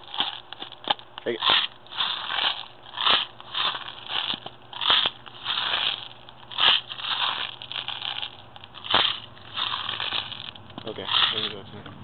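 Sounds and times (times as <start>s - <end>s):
pellets rattling in metal pipe: 1.3s - 11.7s.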